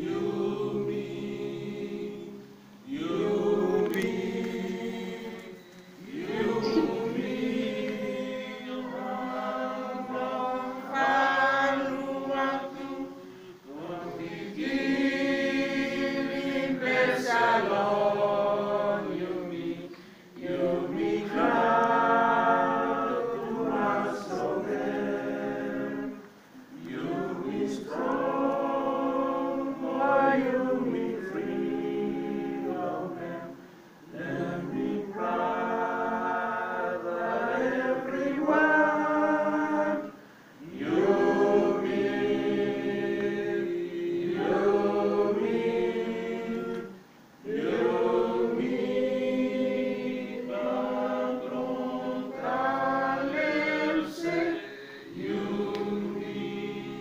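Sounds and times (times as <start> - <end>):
group singing unaccompanied: 0.0 - 57.0.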